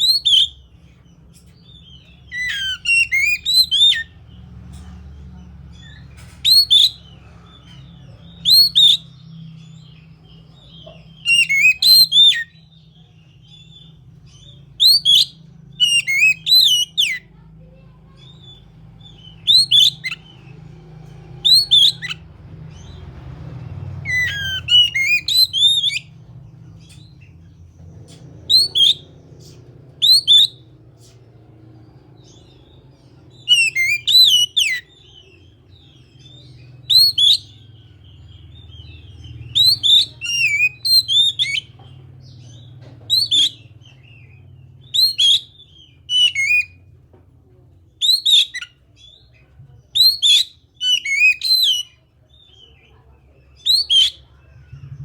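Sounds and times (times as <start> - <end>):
bird whistling song: 0.0 - 4.2, 5.7 - 17.4, 18.2 - 20.6, 21.4 - 23.0, 23.9 - 31.1, 32.2 - 46.9, 48.0 - 55.0.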